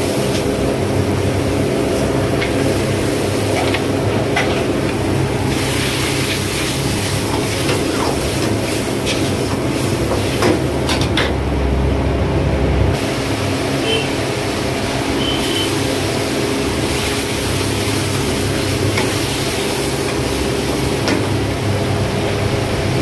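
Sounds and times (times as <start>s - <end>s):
sauce sizzling in a wok: 0.0s - 10.8s, 13.0s - 23.0s
burner roar and hum: 0.0s - 23.0s.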